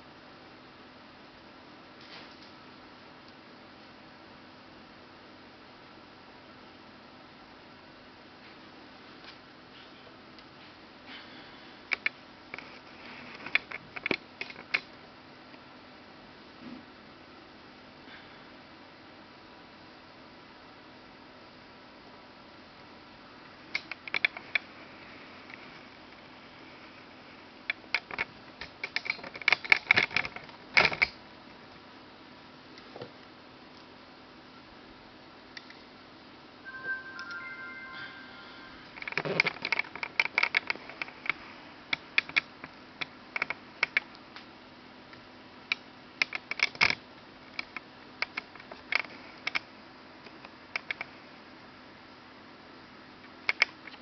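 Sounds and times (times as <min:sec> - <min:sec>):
faint room hiss: 0:00.0 - 0:54.0.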